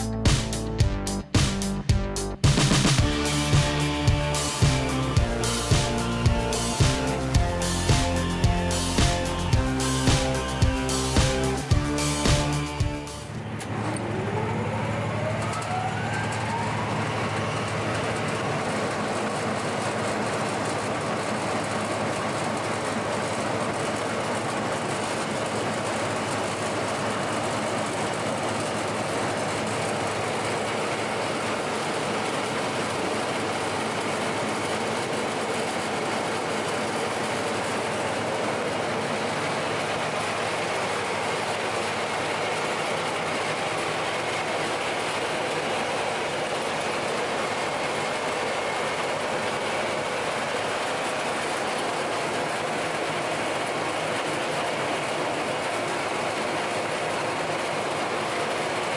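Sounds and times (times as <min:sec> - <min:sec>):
woodworking machine running: 0:02.5 - 0:58.9.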